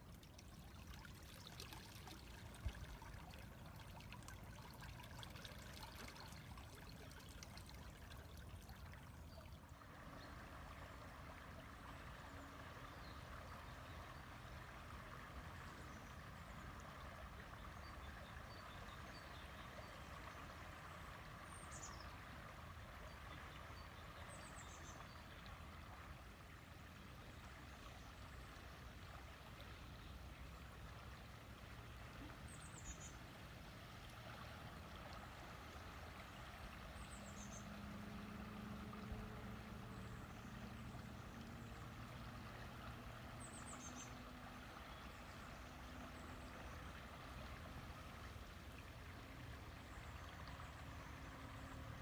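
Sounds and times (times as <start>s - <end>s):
river water running: 0.0s - 52.0s.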